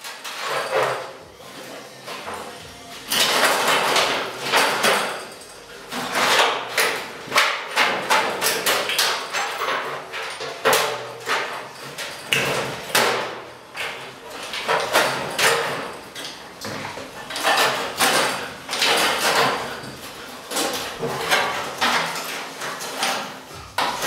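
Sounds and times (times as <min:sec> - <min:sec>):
metallic knocks and clatter: 0:00.0 - 0:01.3, 0:02.1 - 0:24.0.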